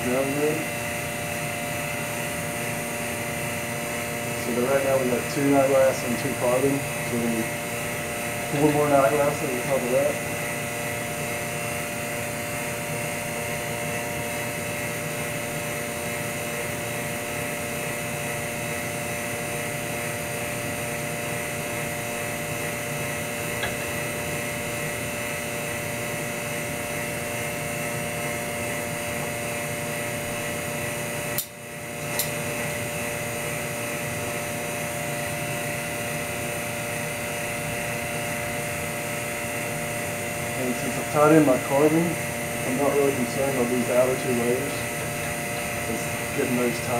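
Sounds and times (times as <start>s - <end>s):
electric motor humming and whining: 0.0s - 46.9s.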